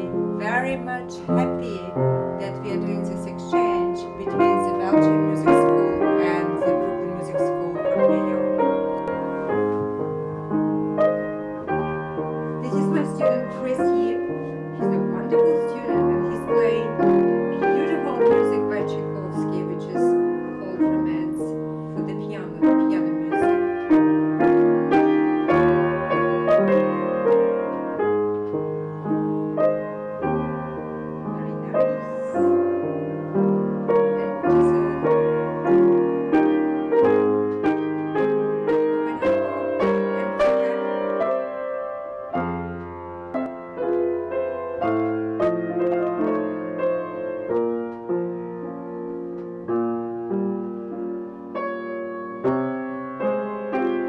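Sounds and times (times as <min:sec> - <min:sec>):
solo piano melody: 0:00.0 - 0:54.0.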